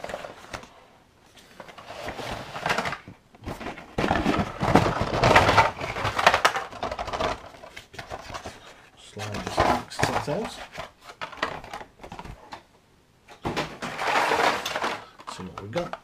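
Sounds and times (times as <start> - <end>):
cardboard and plastic rustling: 0.0 - 12.7, 13.3 - 16.0.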